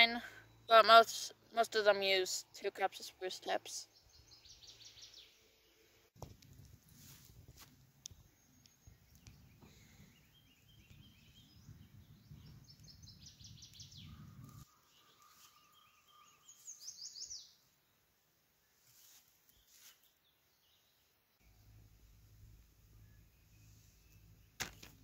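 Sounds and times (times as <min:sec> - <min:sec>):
songbirds singing: 0:00.0 - 0:06.0, 0:08.0 - 0:18.8, 0:19.5 - 0:25.0.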